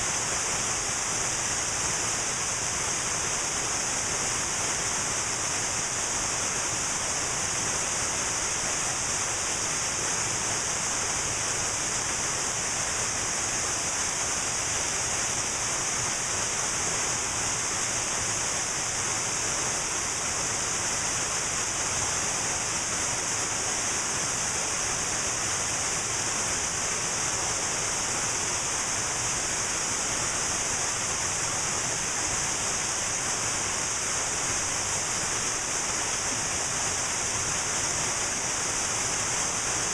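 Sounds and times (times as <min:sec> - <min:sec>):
waterfall rushing: 0:00.1 - 0:39.9.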